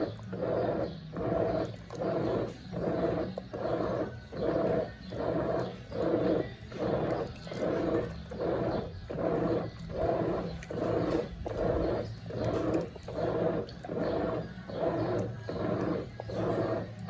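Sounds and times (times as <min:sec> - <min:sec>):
washing machine churning: 0:00.0 - 0:17.0.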